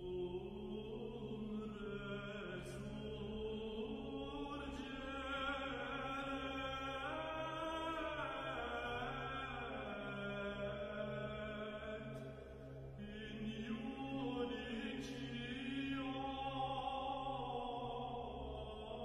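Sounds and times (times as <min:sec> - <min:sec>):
slow chanted singing: 0:00.0 - 0:19.0.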